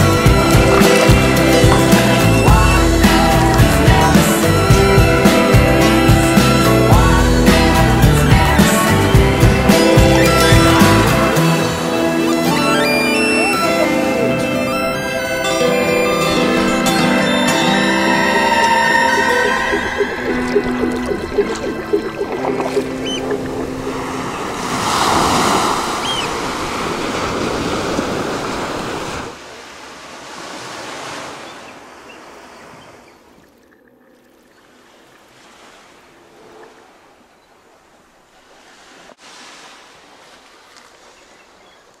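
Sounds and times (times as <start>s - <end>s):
sea water washing: 0.0s - 41.6s.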